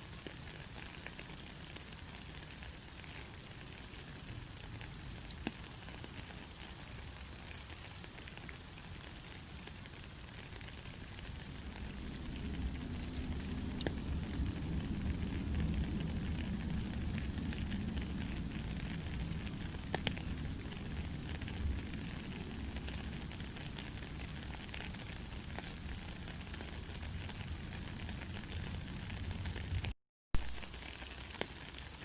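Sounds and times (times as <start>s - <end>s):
faint clicks and crackles: 0.2s - 32.0s.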